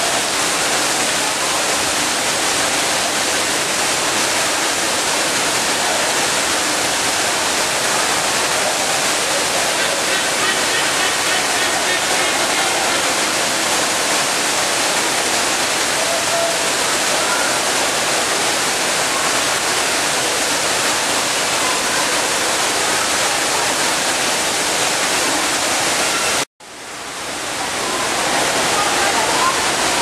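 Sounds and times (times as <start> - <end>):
falling water rushing: 0.0 - 30.0.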